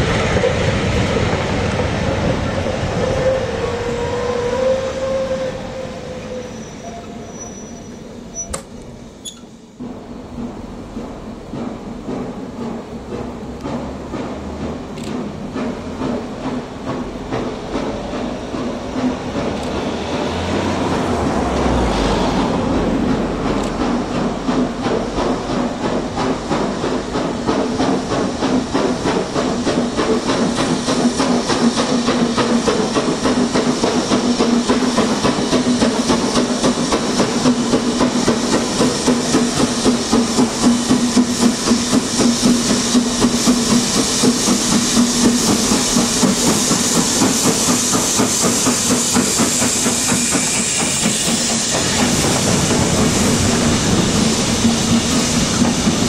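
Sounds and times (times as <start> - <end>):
steam locomotive hissing: 0.0 - 56.0
train wheels clattering on track: 0.0 - 56.0.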